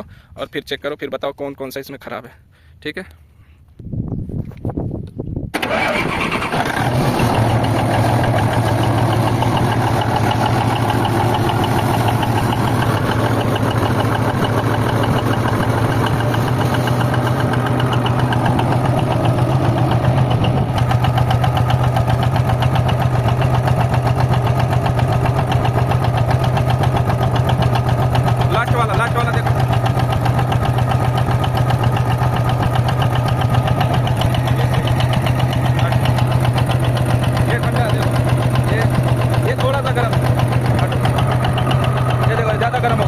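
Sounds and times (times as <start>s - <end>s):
diesel engine starting and idling: 5.5s - 43.0s.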